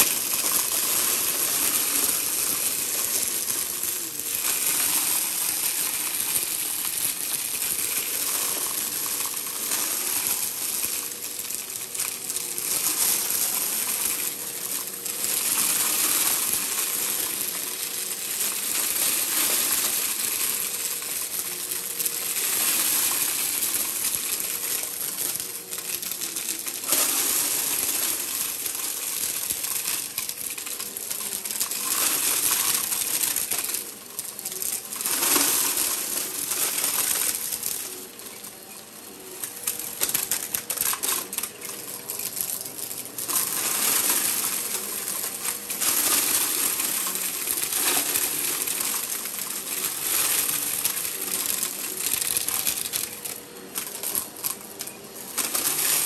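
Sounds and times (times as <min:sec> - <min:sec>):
vacuum cleaner motor: 0:00.0 - 0:56.0.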